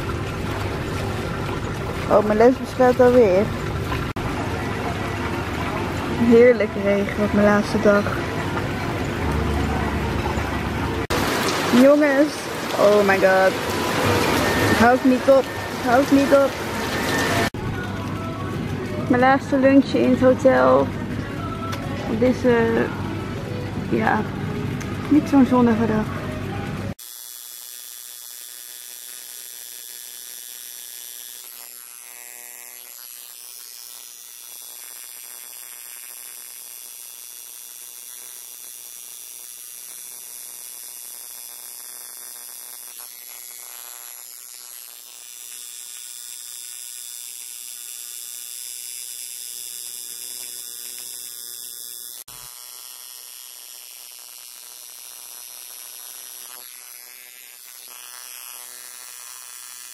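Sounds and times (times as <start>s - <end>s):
tattoo machine buzzing: 5.6s - 59.9s.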